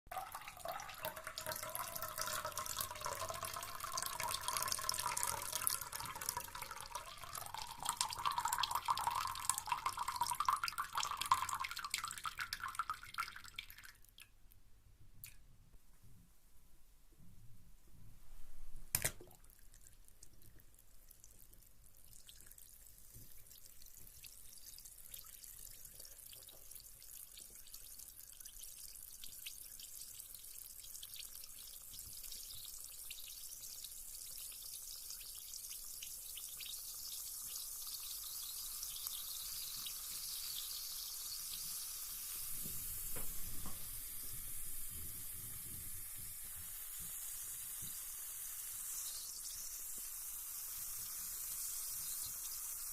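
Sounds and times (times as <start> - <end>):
bath bomb fizzing: 0.1 - 14.1, 19.0 - 52.9.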